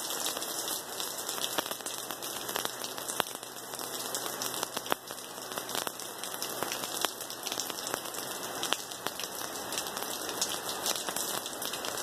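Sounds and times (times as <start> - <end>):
close raindrop hits: 0.0 - 12.0
rain hissing on ground: 0.0 - 12.0.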